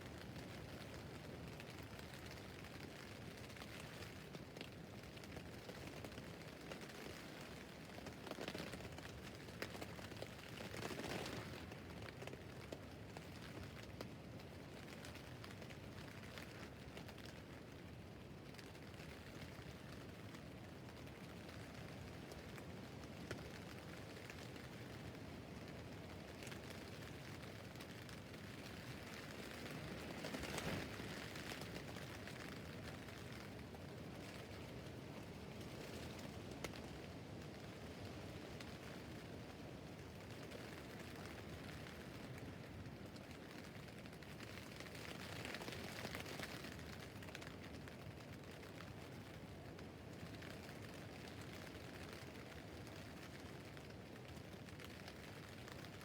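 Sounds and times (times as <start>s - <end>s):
rain on a tent roof: 0.0s - 56.0s.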